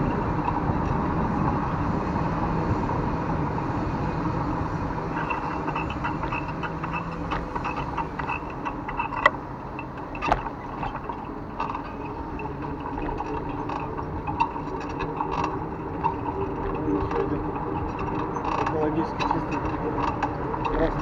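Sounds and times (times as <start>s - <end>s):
bicycle creaking and clicking: 0.0s - 21.0s
bicycle tyres rolling: 0.0s - 21.0s
traffic: 0.0s - 21.0s.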